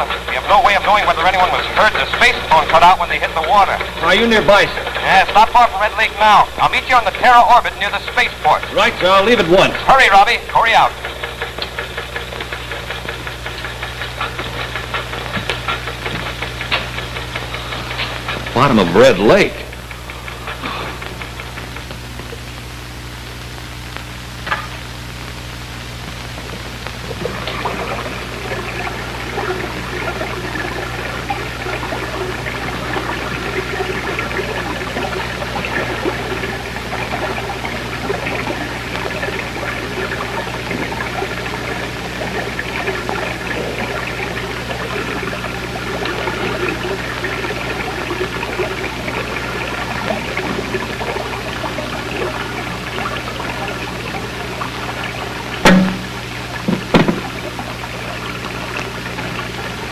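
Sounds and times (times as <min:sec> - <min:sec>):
low electrical hum: 0:00.0 - 0:59.9
running water: 0:00.0 - 0:59.9.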